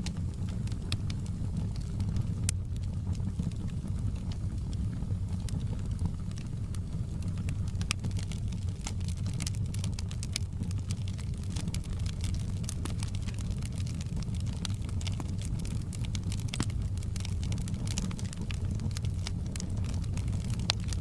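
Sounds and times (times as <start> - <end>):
fire crackling: 0.0 - 21.0.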